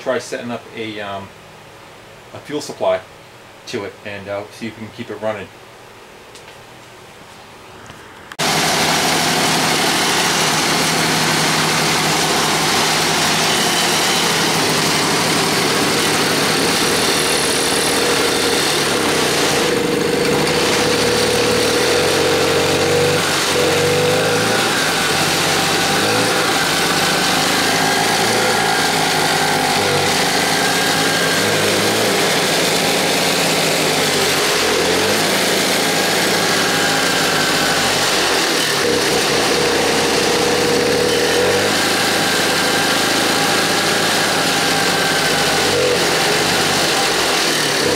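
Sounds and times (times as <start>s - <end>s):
two-stroke engine running: 8.4s - 47.9s.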